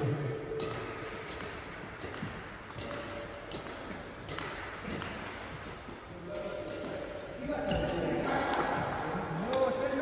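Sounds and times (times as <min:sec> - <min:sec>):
knocks and taps echoing in hall: 0:00.0 - 0:10.0.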